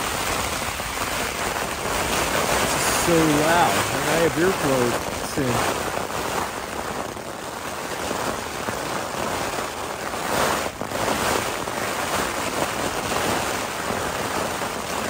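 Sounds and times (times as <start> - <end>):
heavy rain on tent: 0.0 - 15.0
strong wind on tent: 0.0 - 15.0.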